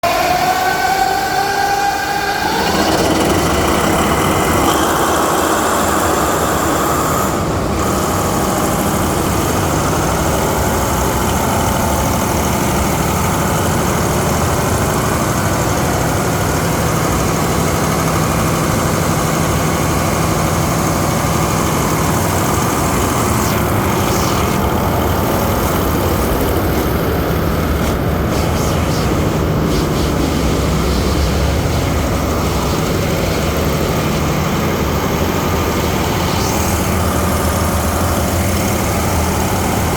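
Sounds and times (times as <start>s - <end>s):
diesel generator engine running: 2.4s - 39.9s.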